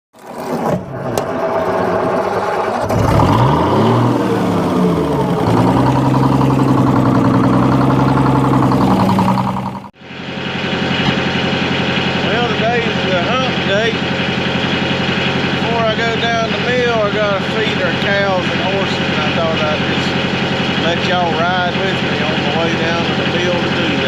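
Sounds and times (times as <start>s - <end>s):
engine running: 0.2s - 24.0s.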